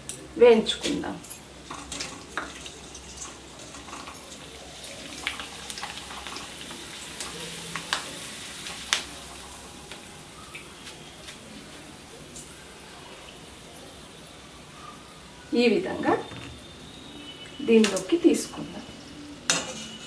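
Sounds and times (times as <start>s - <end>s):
potato deep-frying in oil: 0.0s - 20.0s.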